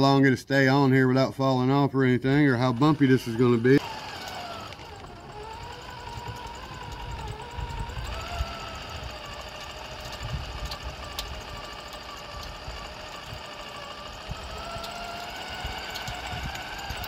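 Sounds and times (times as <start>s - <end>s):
toy car motor whining: 2.4s - 17.0s.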